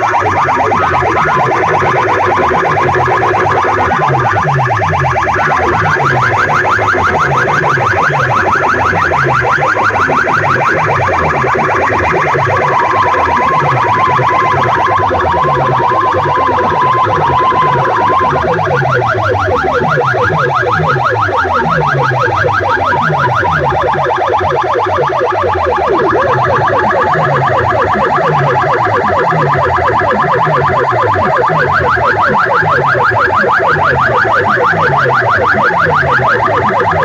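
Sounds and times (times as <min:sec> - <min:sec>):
electronic music over loudspeakers: 0:00.0 - 0:37.0.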